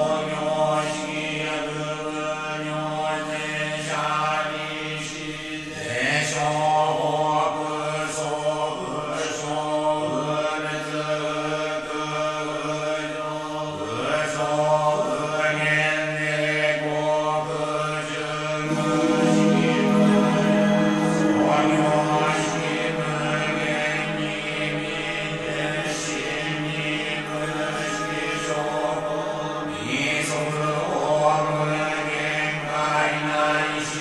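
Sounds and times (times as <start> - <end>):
monks chanting: 0.0 - 34.0.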